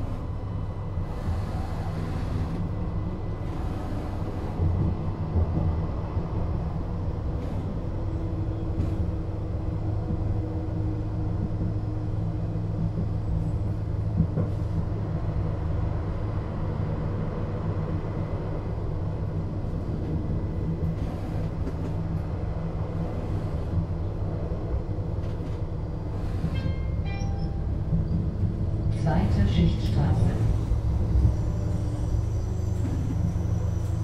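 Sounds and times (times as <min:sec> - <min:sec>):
light-rail car drone: 0:00.0 - 0:34.0.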